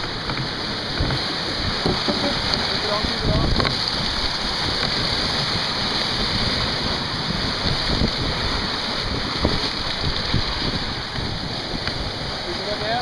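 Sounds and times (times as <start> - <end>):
water rushing past hull: 0.0 - 13.0.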